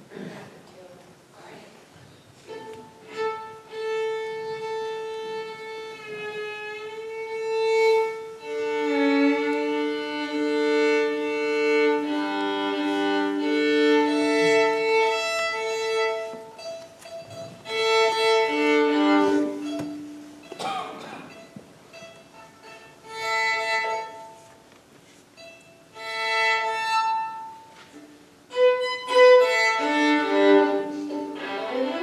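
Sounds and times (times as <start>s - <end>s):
solo violin playing: 2.4s - 20.6s, 21.2s - 24.6s, 25.2s - 32.0s.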